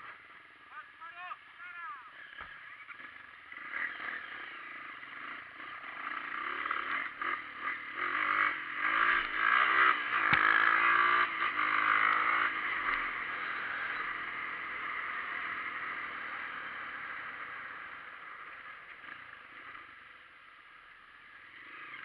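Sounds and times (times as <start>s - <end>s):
motorcycle engine accelerating: 2.2s - 22.0s.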